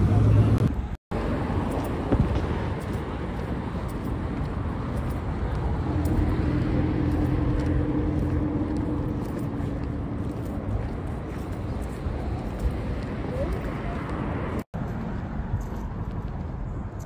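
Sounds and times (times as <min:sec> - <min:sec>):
city street traffic: 0:00.0 - 0:17.0
steady engine hum: 0:00.0 - 0:17.0.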